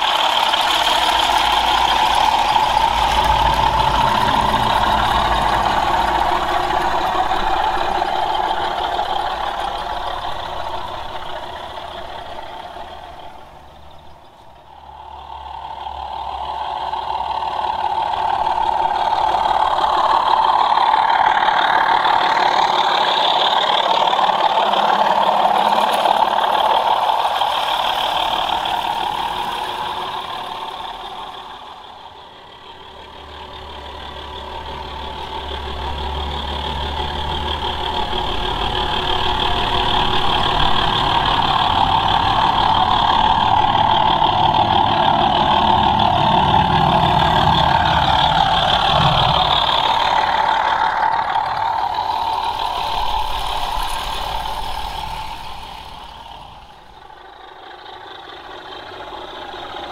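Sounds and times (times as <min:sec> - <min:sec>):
model train diesel engine sound: 0:00.0 - 0:59.9.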